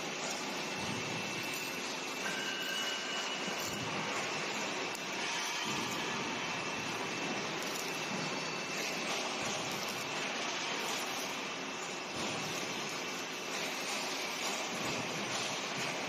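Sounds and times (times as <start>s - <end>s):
faint high whine: 0.0s - 13.2s.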